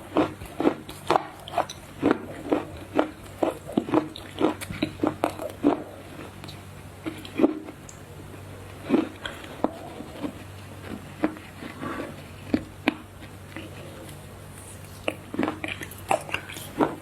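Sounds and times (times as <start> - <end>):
close chewing crunches: 0.0 - 17.0
low steady hum: 0.0 - 17.0.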